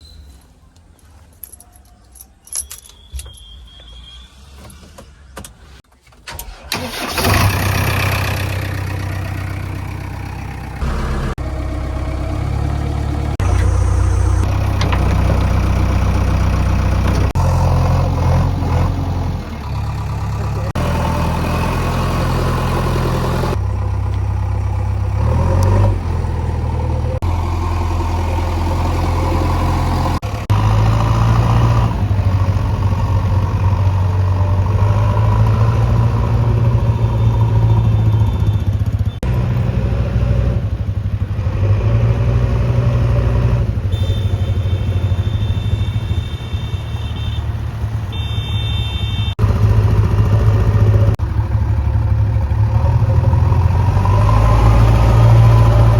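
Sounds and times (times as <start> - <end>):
heavy diesel engines revving: 6.4 - 55.9.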